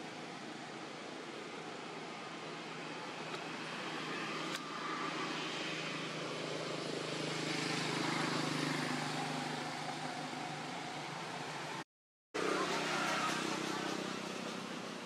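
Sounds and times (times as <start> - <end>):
engine-like hum: 0.0 - 11.8, 12.4 - 15.0.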